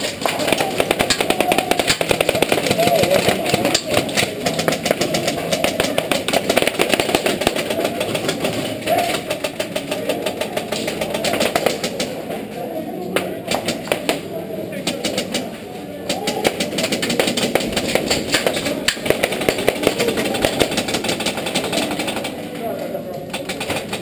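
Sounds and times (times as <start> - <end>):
airsoft guns firing rapidly: 0.0 - 12.3, 13.5 - 22.6, 23.2 - 24.0.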